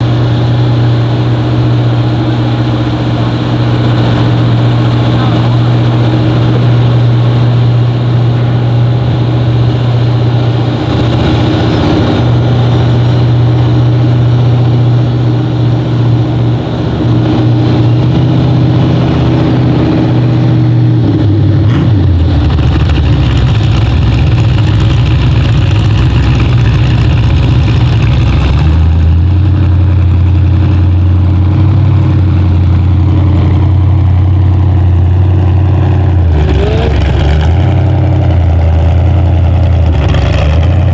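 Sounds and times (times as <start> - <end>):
loud engine running hard: 0.0 - 40.9.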